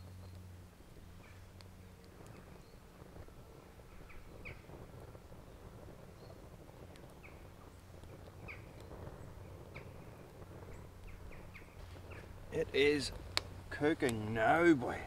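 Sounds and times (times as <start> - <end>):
birds chirping: 0.0 - 15.0
fire crackling and popping: 0.0 - 15.0
low steady rumble: 0.0 - 15.0.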